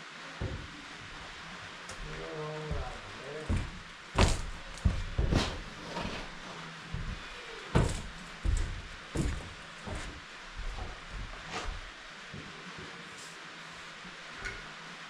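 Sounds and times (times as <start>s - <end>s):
irregular knocks and thuds: 0.4s - 12.5s.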